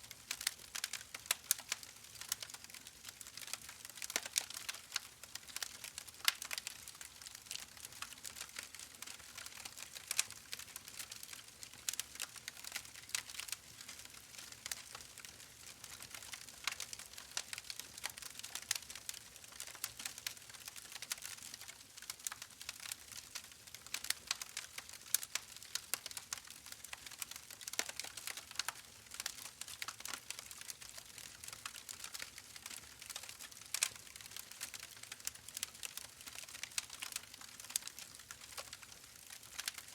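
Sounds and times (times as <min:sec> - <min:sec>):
soft crackle of small clicks: 0:00.0 - 0:39.9.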